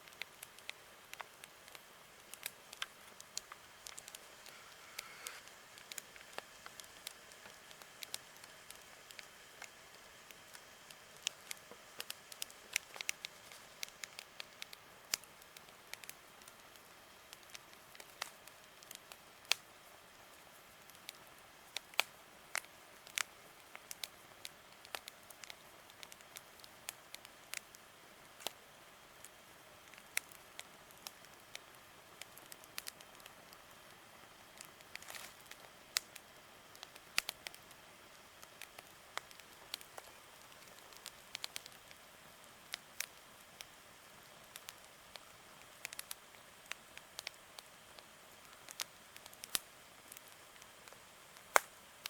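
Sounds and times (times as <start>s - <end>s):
campfire popping and snapping: 0.0s - 52.0s
faint steady hiss: 0.0s - 52.0s.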